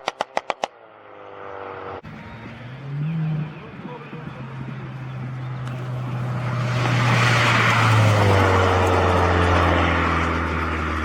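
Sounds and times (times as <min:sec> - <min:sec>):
modified car driving past: 0:01.2 - 0:11.0.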